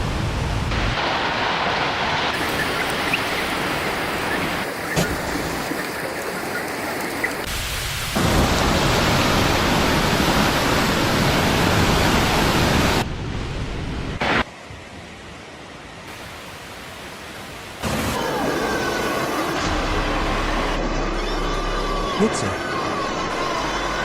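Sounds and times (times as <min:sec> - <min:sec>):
rushing water from heavy rain: 0:00.0 - 0:24.0.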